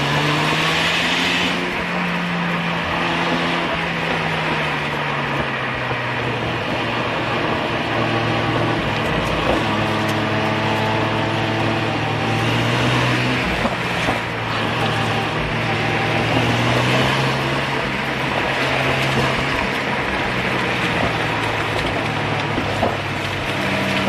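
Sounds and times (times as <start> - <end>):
rotary engine under throttle: 0.0 - 24.0
tyre and road noise: 0.0 - 24.0.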